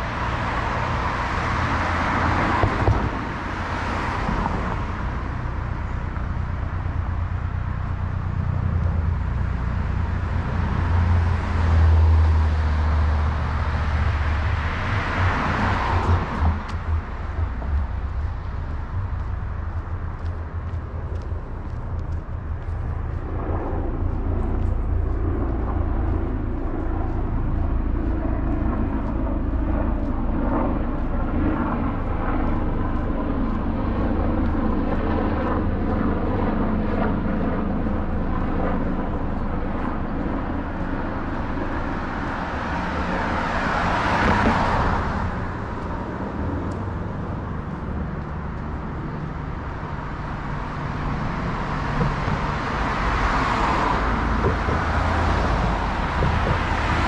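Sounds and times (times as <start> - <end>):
low engine hum of traffic: 0.0 - 57.0.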